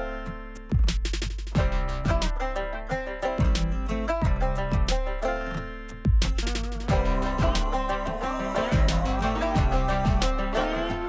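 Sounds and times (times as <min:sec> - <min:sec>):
instrumental guitar music: 0:00.0 - 0:11.0.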